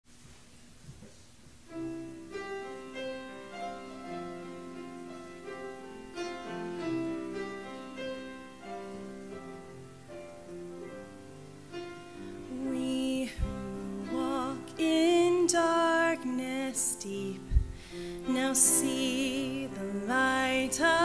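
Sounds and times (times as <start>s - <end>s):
slow solo piano: 1.6s - 21.0s.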